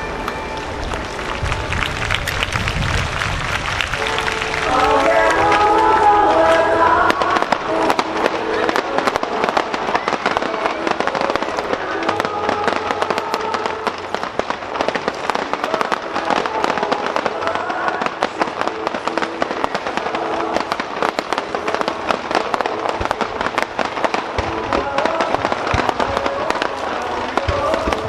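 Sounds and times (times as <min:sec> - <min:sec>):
fireworks popping and crackling: 0:00.0 - 0:28.0
music with sustained notes: 0:00.0 - 0:28.0.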